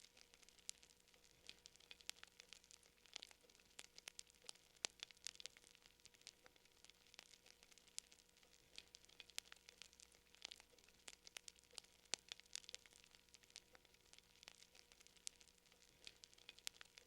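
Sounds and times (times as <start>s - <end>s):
faint fire crackling: 0.0s - 17.0s.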